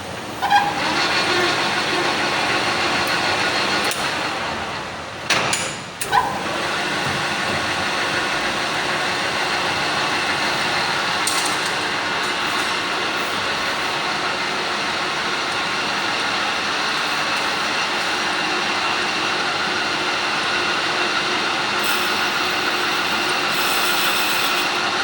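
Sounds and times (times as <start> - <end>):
lathe machining noise: 0.0 - 5.2, 6.0 - 25.0.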